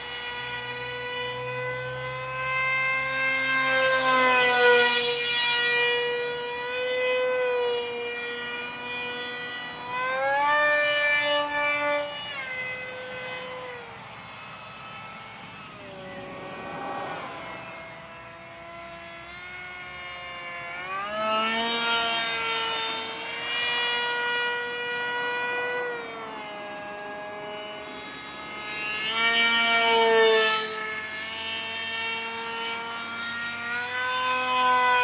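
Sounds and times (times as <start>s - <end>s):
electric motor and propeller whining: 0.0s - 35.0s.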